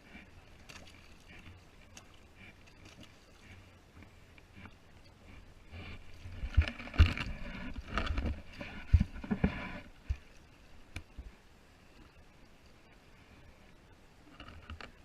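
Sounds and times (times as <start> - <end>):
water splashing around kayak: 0.0 - 13.6.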